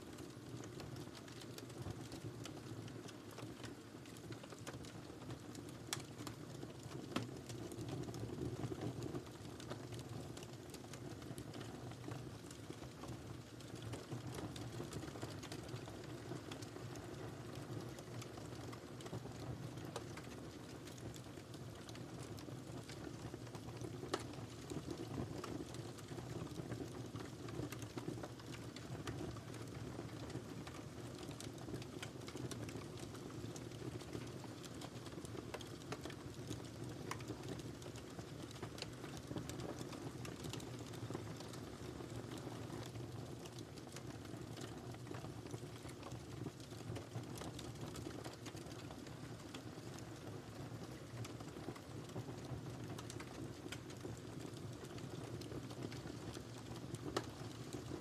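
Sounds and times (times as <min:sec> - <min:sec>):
fire crackles and pops: 0:00.0 - 0:58.0
low rumble of flames: 0:00.1 - 0:58.0.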